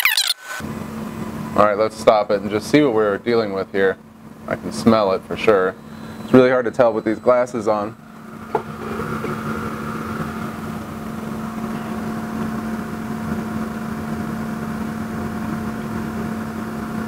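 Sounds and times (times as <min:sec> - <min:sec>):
electric fan humming: 0:00.4 - 0:17.0.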